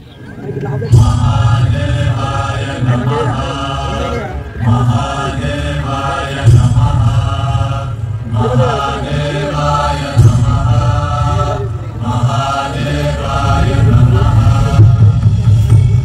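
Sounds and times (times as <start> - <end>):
low musical drone: 0.0 - 16.0
devotional chanting: 0.6 - 16.0.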